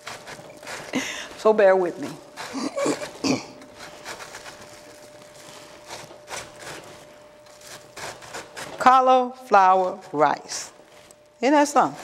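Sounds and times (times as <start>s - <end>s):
cauliflower being grated: 0.0s - 12.0s.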